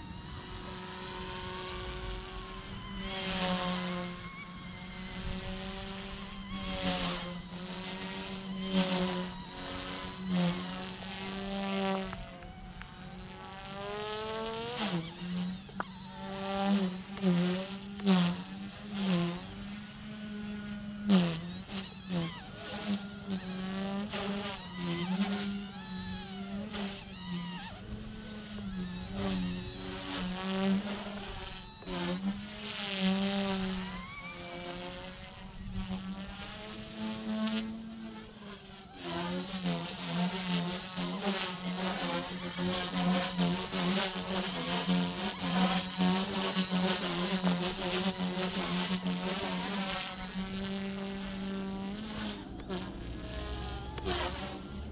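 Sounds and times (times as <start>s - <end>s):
rc helicopter buzzing whine: 0.0s - 54.9s.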